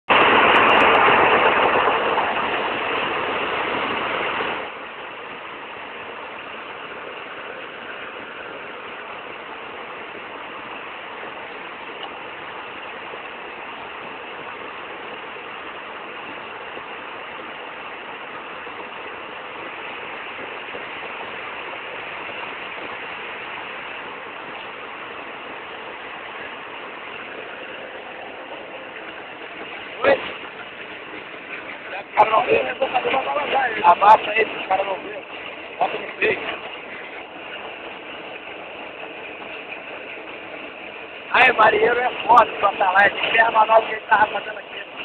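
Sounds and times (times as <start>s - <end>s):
boat engine drone: 0.0s - 45.0s.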